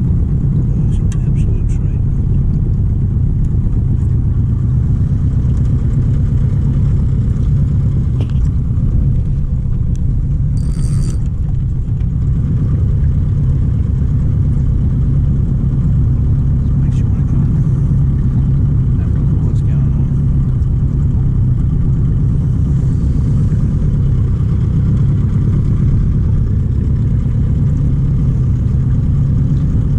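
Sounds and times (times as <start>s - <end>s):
boat motor running: 0.0s - 29.9s.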